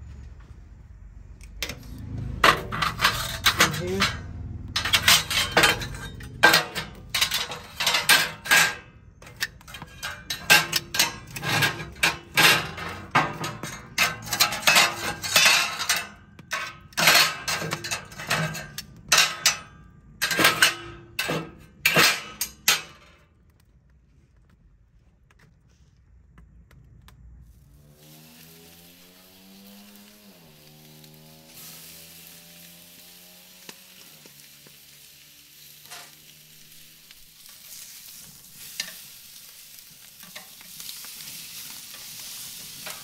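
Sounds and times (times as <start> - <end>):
metal tongs clanking on grill grates: 1.4 - 23.2, 28.0 - 43.0.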